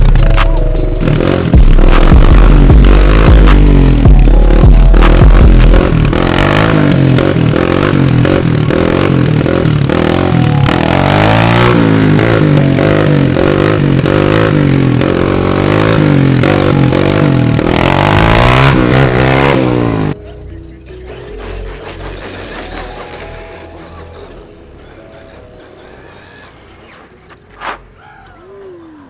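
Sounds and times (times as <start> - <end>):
dirt bike engines revving: 0.0 - 28.5.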